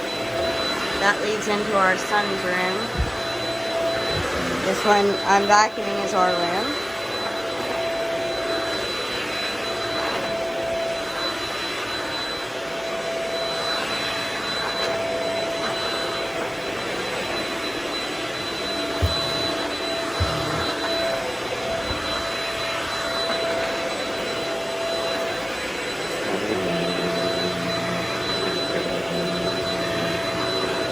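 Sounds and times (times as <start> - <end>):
vacuum cleaner running on carpet: 0.0 - 30.9.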